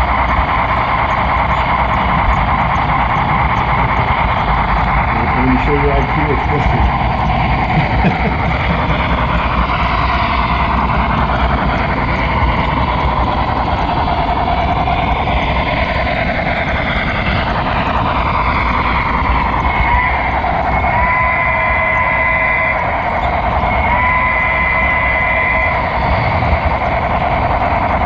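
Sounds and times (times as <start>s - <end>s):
locomotive motor running: 0.0s - 28.0s
model train wheels rolling on track: 0.0s - 28.0s.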